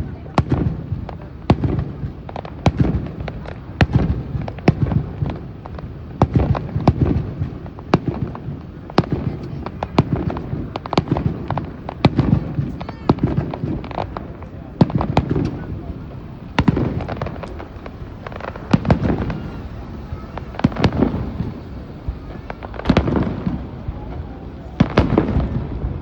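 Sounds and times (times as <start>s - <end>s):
fireworks cracks and booms: 0.0s - 26.0s
low rumble of bursting shells: 0.4s - 26.0s.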